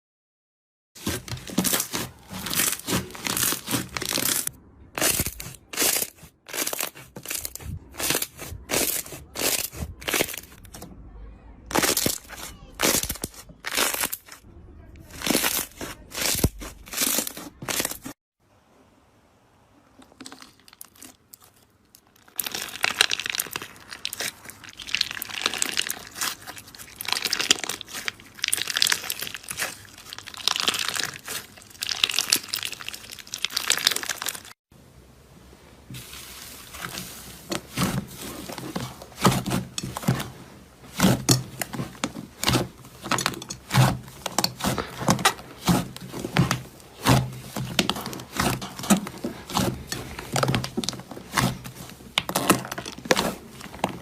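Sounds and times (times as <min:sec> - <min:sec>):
slime crackling and popping: 0:01.0 - 0:10.8, 0:11.7 - 0:14.4, 0:15.0 - 0:18.1, 0:20.1 - 0:34.6, 0:36.7 - 0:54.0
wet slime squishing: 0:01.0 - 0:10.9, 0:11.7 - 0:18.2, 0:20.0 - 0:34.6, 0:35.9 - 0:54.0.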